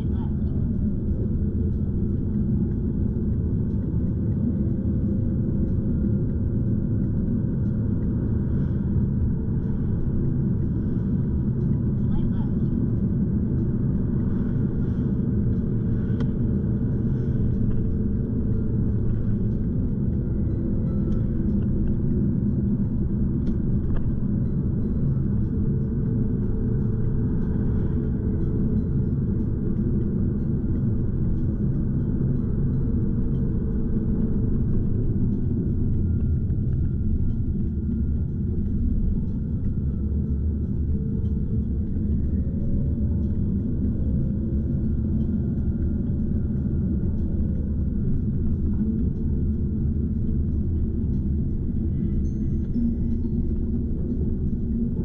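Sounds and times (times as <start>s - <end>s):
faint engine hum: 0.0s - 55.0s.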